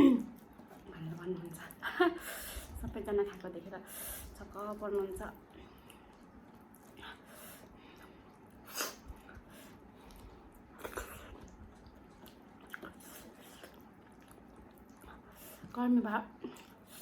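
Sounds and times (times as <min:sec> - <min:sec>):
quiet chewing: 0:00.0 - 0:17.0.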